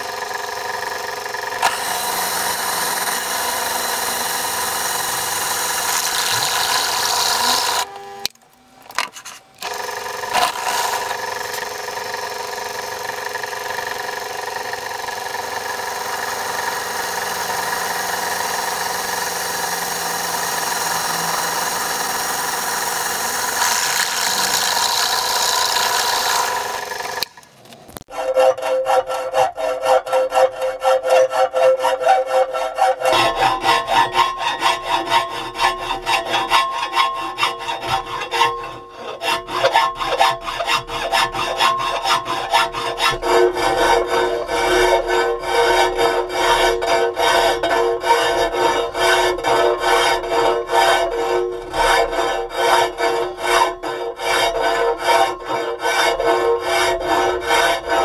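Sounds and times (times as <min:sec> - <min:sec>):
hand file rasping on metal: 0:00.0 - 0:07.9, 0:09.6 - 0:27.3, 0:28.1 - 0:58.0
pillar drill drilling steel: 0:00.0 - 0:08.0, 0:09.6 - 0:27.4, 0:32.6 - 0:58.0.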